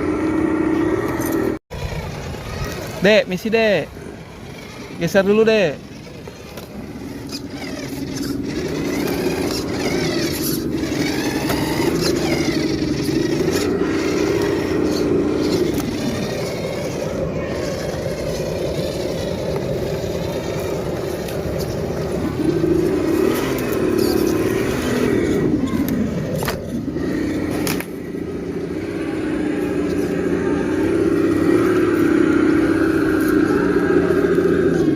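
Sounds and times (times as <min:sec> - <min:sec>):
toy truck electric motor whining: 0:00.0 - 0:34.9.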